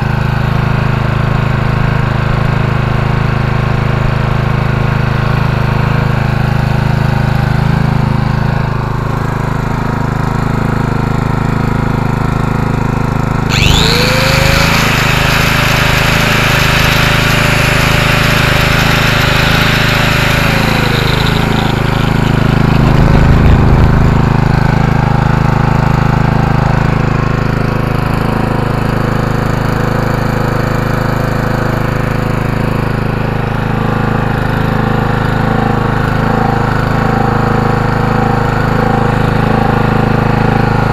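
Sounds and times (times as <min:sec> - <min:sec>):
generator engine humming: 0:00.0 - 0:40.9
power tool motor whining: 0:04.7 - 0:40.9.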